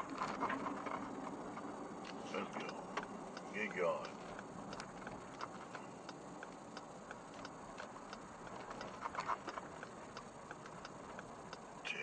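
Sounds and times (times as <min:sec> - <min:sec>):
low road noise: 0:00.0 - 0:12.0
turn signal clicking: 0:00.3 - 0:12.0.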